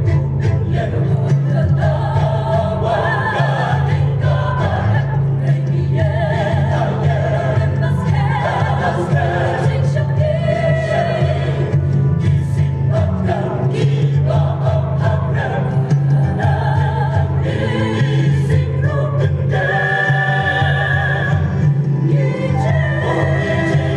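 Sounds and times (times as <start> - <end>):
mixed choir singing: 0.0 - 23.9.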